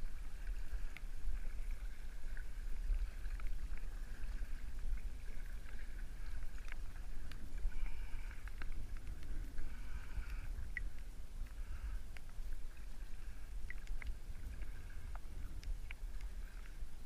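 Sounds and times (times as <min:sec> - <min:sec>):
paddle dipping and dripping: 0:00.0 - 0:17.0
small clicks and splashes: 0:00.0 - 0:17.0
steady low rumble: 0:00.0 - 0:17.0.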